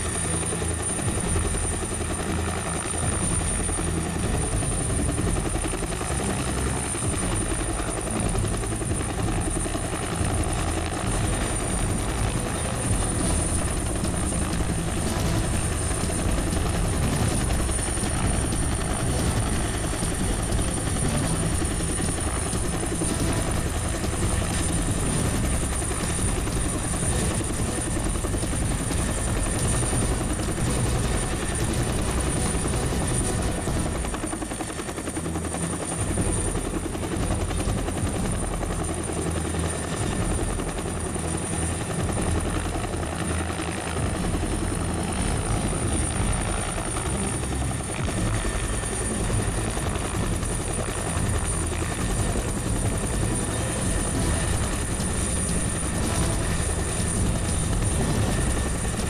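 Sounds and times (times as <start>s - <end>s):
helicopter hovering: 0.0s - 59.0s.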